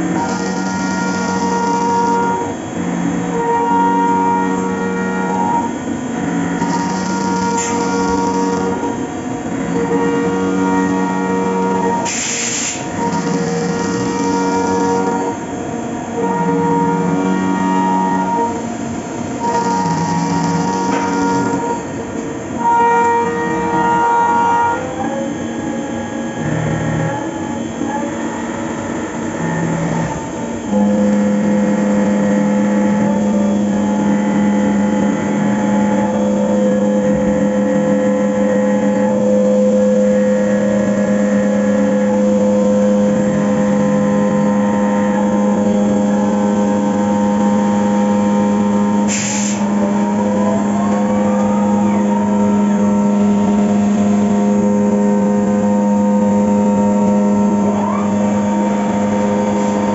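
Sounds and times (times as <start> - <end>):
cnc mill whine: 0.0 - 59.9.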